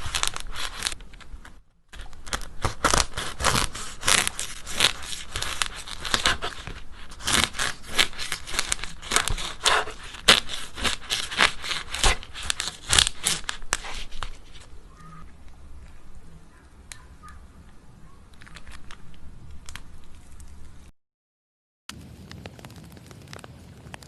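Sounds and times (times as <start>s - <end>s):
clay cracking and snapping: 0.0s - 17.0s, 18.3s - 20.9s.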